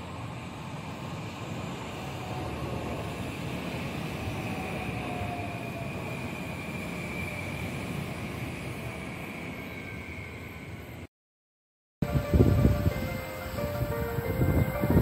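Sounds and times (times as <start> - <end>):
train wheels rumbling on rail: 0.0 - 11.0, 12.0 - 15.0.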